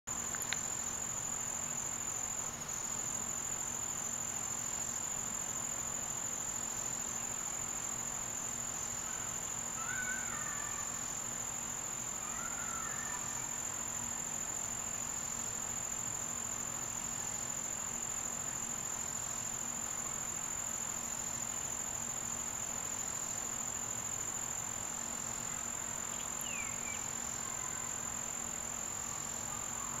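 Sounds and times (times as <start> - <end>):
insects trilling: 0.1 - 30.0.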